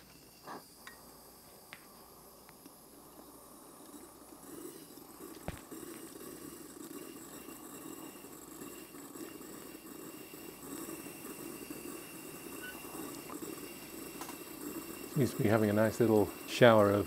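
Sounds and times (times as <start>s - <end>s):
blowtorch roaring: 0.0s - 17.0s
steam blower hissing and sputtering: 0.0s - 17.0s.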